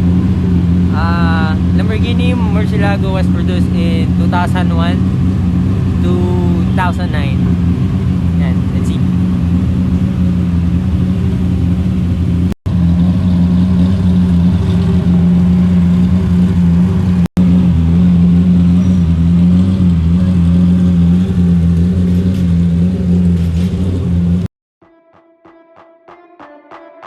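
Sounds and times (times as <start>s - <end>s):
car engine idling: 0.0s - 24.5s.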